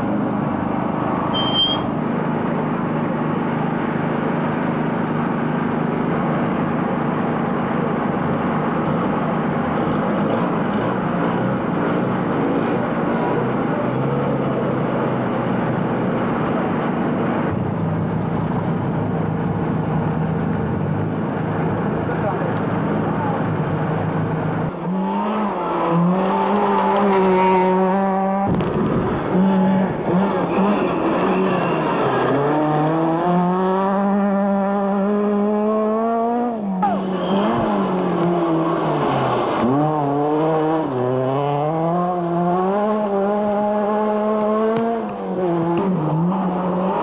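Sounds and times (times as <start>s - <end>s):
rally car engine revving: 0.0s - 47.0s.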